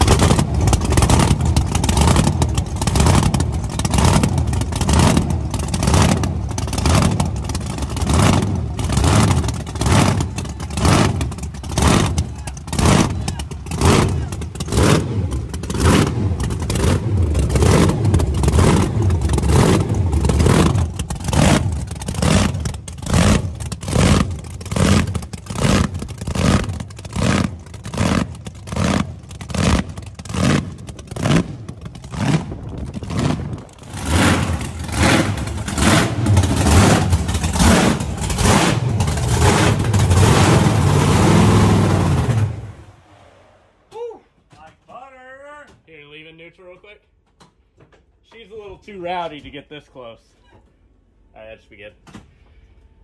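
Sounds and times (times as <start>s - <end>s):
race engine revving: 0.0s - 43.6s.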